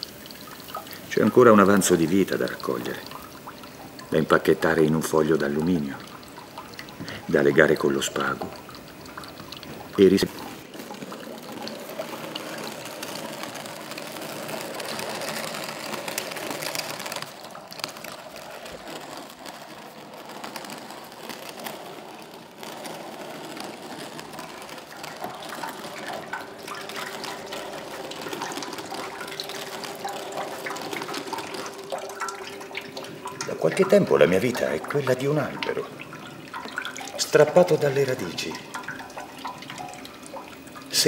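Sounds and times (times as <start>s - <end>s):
grainy pouring trickle: 0.0s - 41.0s.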